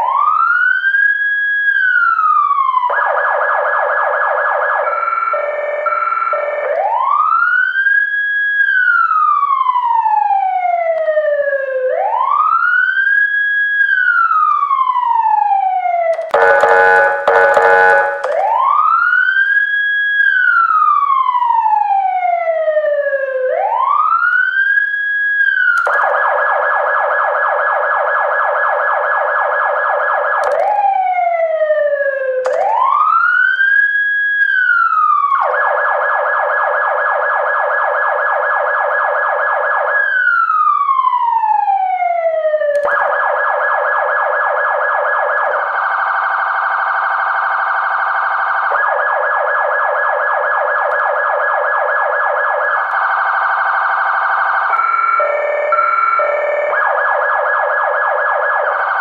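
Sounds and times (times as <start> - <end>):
emergency vehicle siren wailing: 0.0 - 59.0.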